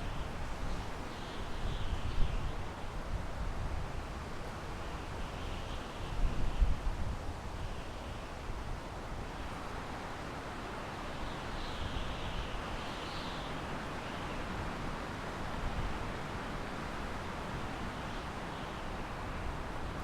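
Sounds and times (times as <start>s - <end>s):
wind through pine trees: 0.0s - 20.0s.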